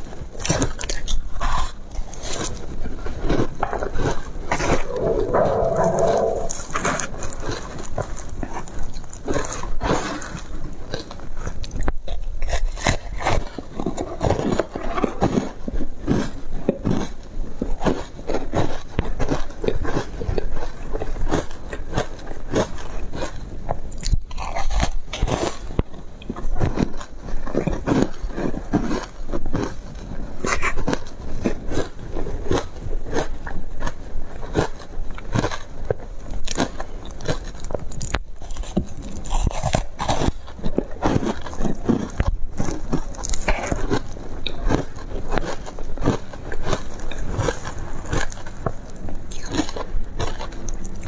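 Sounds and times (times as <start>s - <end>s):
crunching and chewing ice: 0.0s - 51.0s.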